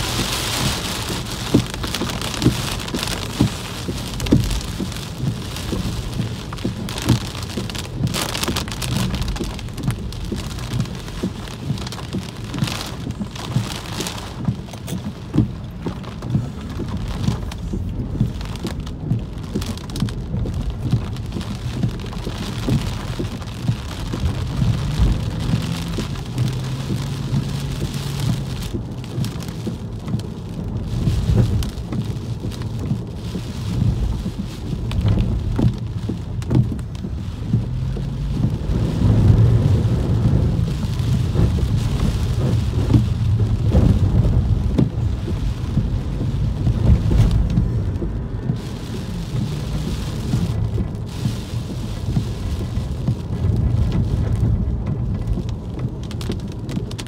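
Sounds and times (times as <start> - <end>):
rain pattering on a car: 0.0 - 57.0
steady low rumble: 0.0 - 57.0.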